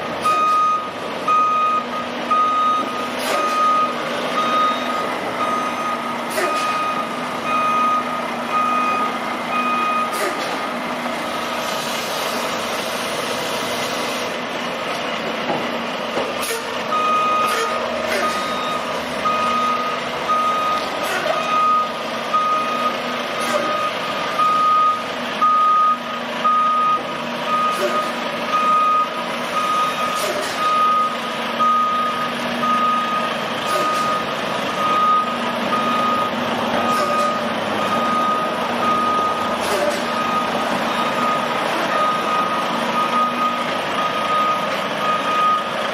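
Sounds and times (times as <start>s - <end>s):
truck diesel engine running: 0.0s - 45.9s
reversing alarm beeping: 0.2s - 10.3s, 16.5s - 45.8s.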